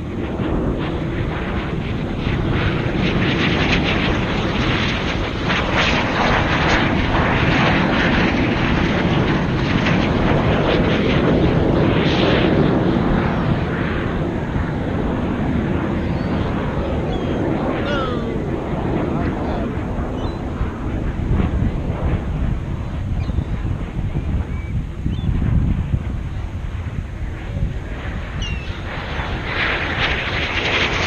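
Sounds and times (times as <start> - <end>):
aircraft engine rumble overhead: 0.0 - 31.0.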